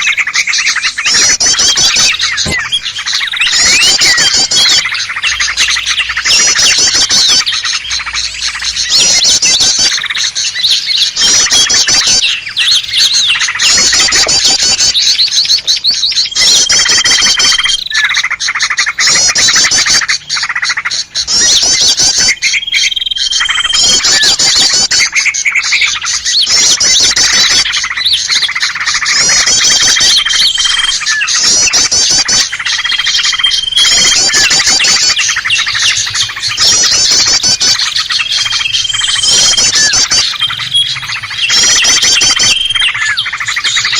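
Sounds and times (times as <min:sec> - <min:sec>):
bird whistle: 0:00.0 - 0:43.9
songbirds chirping and trilling: 0:00.0 - 0:43.9.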